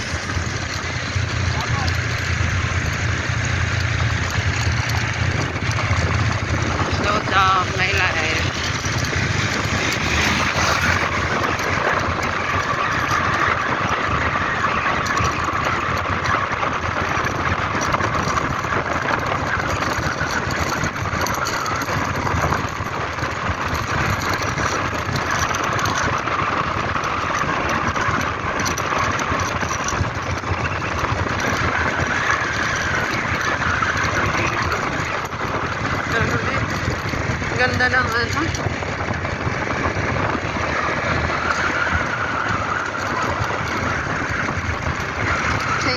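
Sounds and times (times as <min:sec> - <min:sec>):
vehicle engine and road noise: 0:00.0 - 0:45.9.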